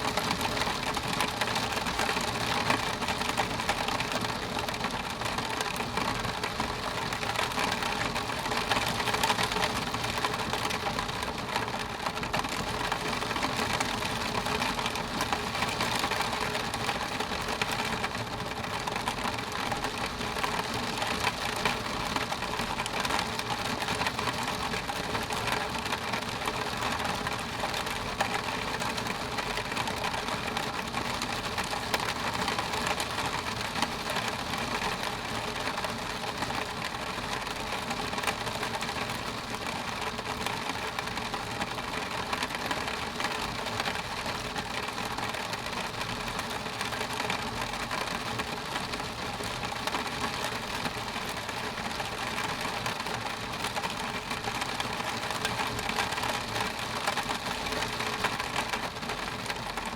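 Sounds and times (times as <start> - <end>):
rain on window glass: 0.0 - 59.9.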